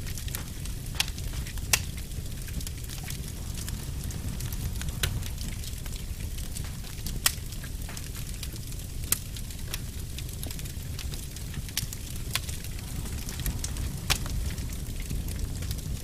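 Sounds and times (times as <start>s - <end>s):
fire crackles and pops: 0.0s - 16.0s
fire low rumble: 0.0s - 16.0s.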